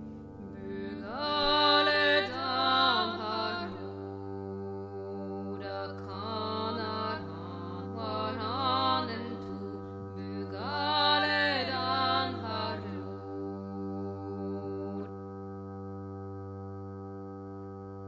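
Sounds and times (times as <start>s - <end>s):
chant-like melody: 0.0s - 18.0s
low drone: 0.0s - 18.0s.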